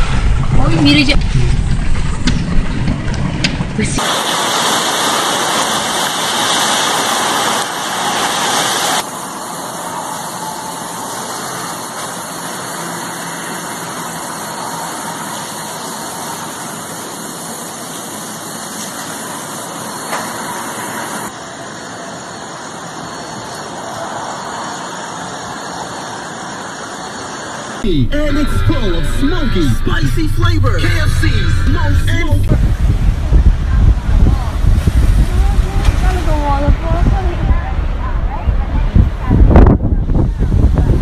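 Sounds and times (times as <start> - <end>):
hurricane wind: 0.0 - 27.8, 32.4 - 41.0
rain: 0.0 - 27.8, 32.6 - 41.0.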